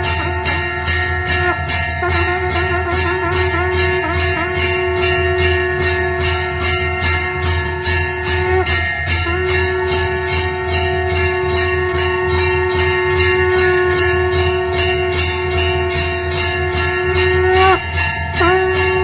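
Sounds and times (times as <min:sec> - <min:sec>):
temple bell ringing: 0:00.0 - 0:19.0.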